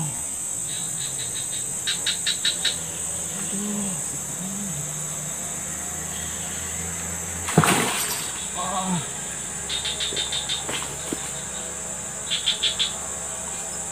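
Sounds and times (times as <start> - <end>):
insect drone: 0.0 - 13.9.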